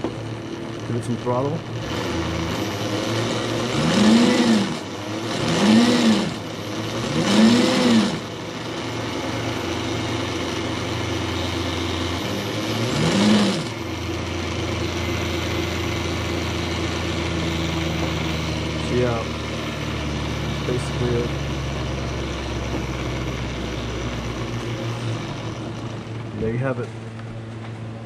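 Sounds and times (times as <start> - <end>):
electric motor whine: 0.0 - 27.9.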